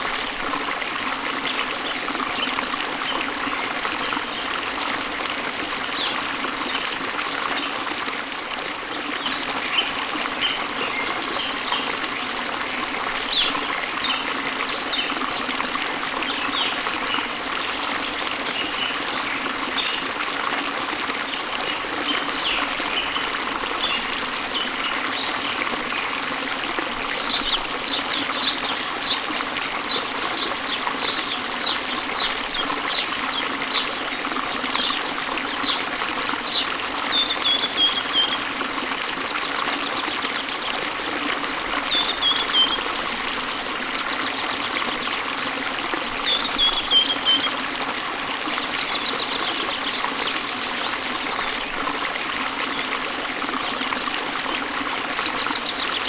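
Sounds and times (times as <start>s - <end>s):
waterfall running: 0.0s - 56.0s.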